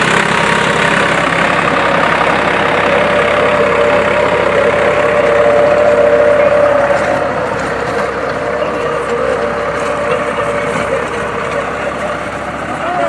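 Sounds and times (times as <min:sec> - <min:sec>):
mid-pitched whine: 0:00.0 - 0:13.0
tractor engine running: 0:00.0 - 0:13.0.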